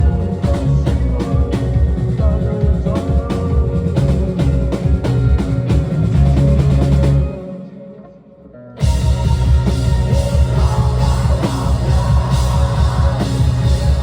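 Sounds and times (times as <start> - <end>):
drum kit beat: 0.0 - 7.4, 8.8 - 14.0
rock music: 0.0 - 14.0.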